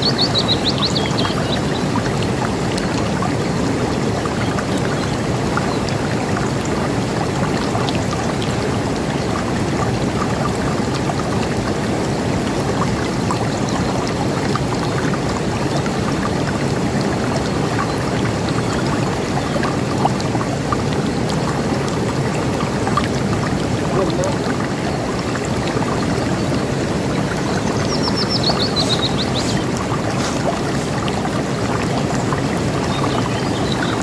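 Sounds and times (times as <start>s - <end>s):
river water rushing: 0.0s - 34.0s.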